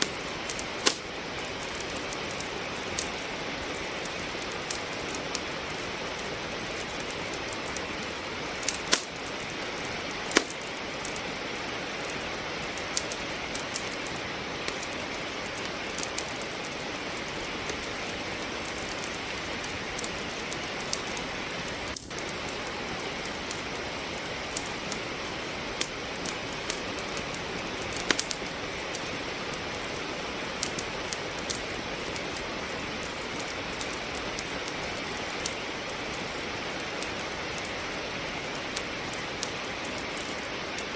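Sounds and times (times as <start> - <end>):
steady rain: 0.0 - 40.9
wood fire crackling: 0.0 - 40.9.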